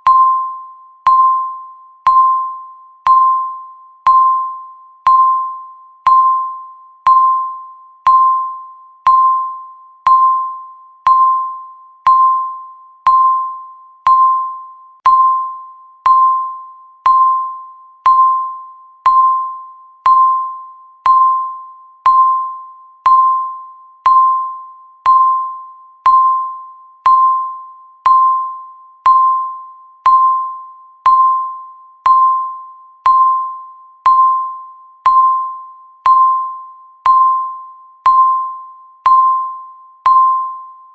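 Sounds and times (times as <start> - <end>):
timer beeping: 0.0 - 40.9.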